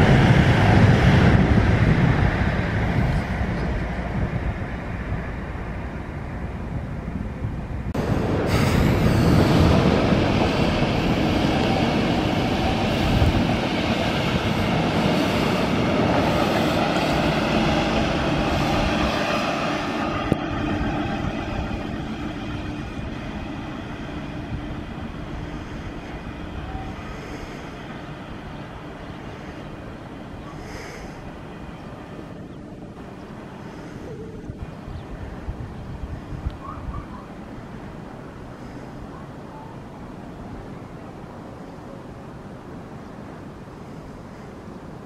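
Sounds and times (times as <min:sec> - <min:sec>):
train wheels rumbling on rail: 0:00.0 - 0:39.3.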